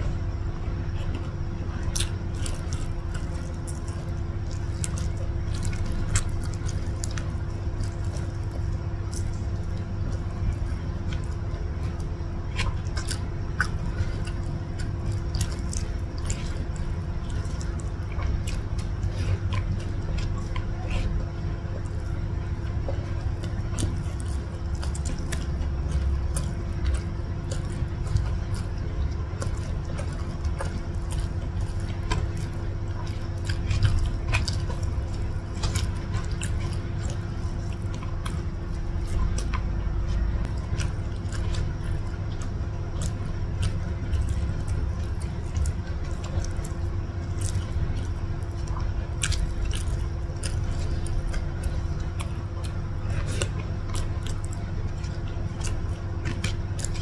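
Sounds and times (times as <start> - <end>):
faint steady hum: 0.0 - 57.0
wet chewing and mouth clicks: 0.0 - 57.0.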